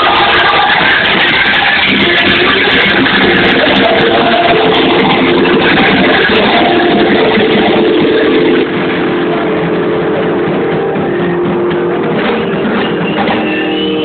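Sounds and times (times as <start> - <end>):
loud distorted live rock band: 0.0 - 14.0.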